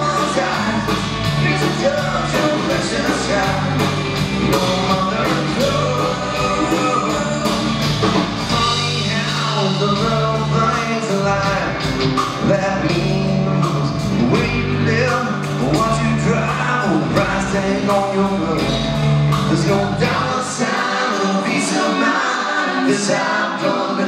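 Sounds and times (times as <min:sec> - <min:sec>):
electric bass: 0:00.0 - 0:21.8
drum kit with hi-hat beat: 0:00.0 - 0:24.0
electric guitars: 0:00.0 - 0:24.0.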